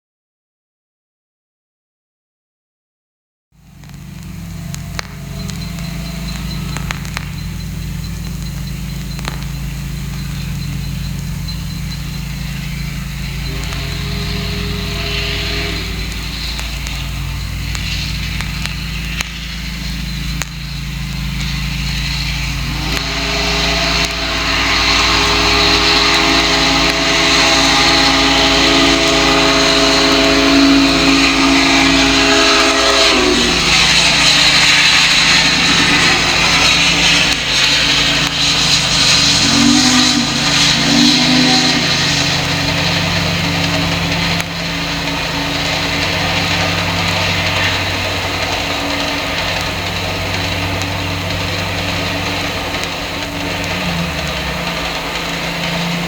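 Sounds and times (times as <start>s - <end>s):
steam locomotive rushing: 3.6s - 56.0s
steam whistle blasts: 3.6s - 56.0s.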